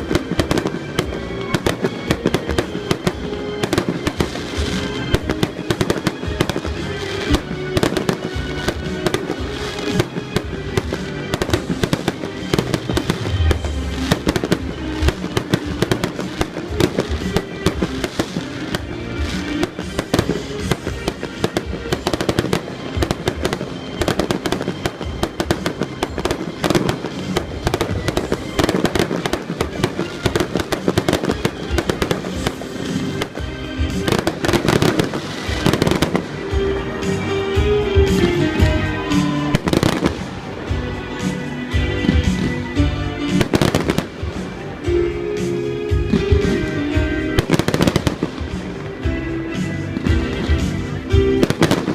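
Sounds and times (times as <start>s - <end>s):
fireworks bangs and crackles: 0.0s - 51.9s
music playing: 0.0s - 51.9s.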